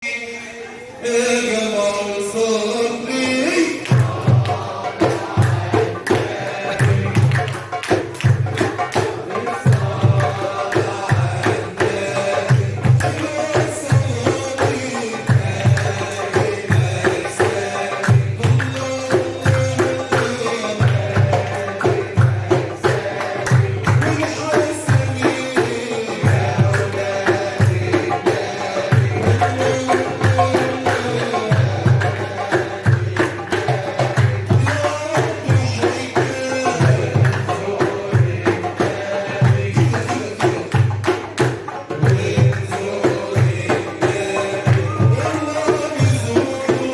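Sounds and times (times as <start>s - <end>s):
hand drum rhythm: 3.2s - 46.9s.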